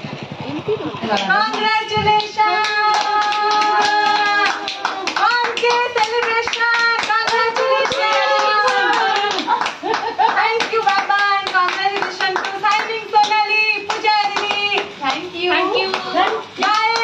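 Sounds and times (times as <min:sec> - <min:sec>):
rhythmic hand clapping: 0:01.0 - 0:17.0
women singing together: 0:01.2 - 0:09.7, 0:10.3 - 0:17.0.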